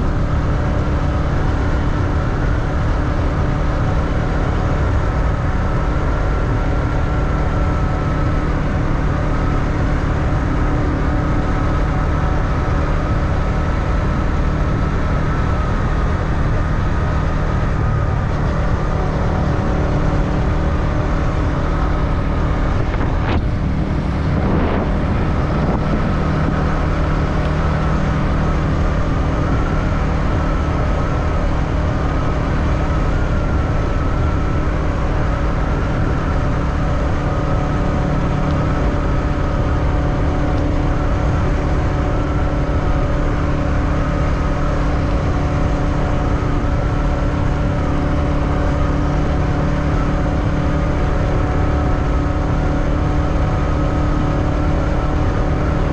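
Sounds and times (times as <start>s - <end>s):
heavy low rumble: 0.0s - 55.9s
motorbike engine running: 0.0s - 55.9s.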